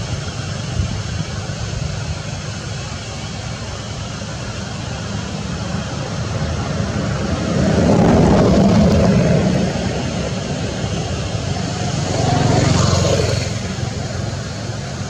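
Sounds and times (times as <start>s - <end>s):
passing vehicle engine drone: 0.0s - 15.0s.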